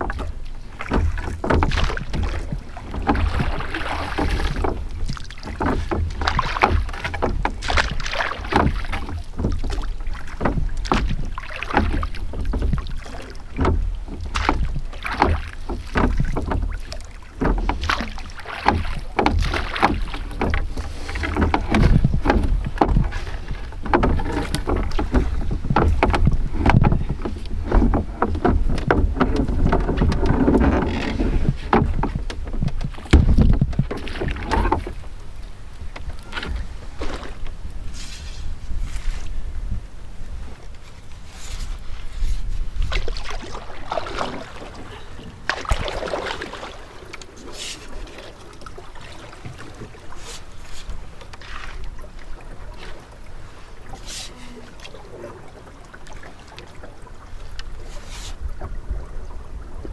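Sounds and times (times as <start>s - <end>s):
oars knocking: 0.0s - 39.8s, 40.6s - 59.9s
wind rumbling on microphone: 0.0s - 48.2s, 51.8s - 59.9s
oars splashing in water: 0.0s - 59.9s.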